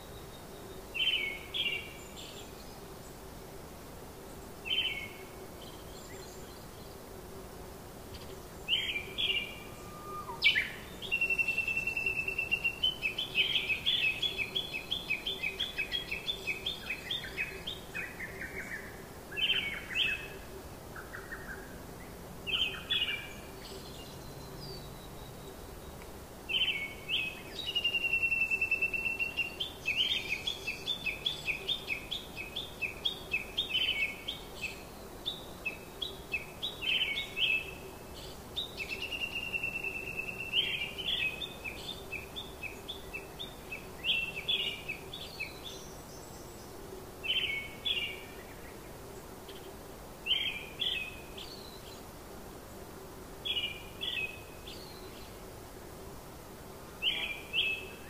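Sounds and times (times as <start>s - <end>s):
faint background hiss: 0.0s - 58.0s
songbird singing: 0.0s - 58.0s.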